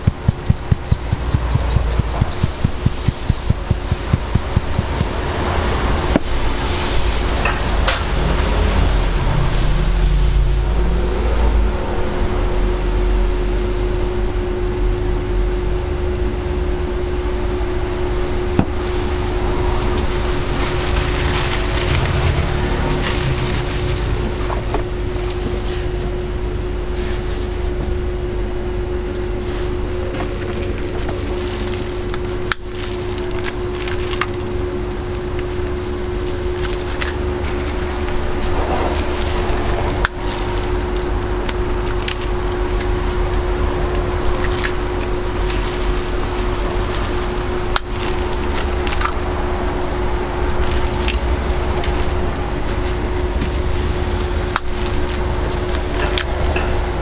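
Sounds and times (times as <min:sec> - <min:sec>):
low rumble: 0:00.0 - 0:57.0
steady hum: 0:00.0 - 0:57.0.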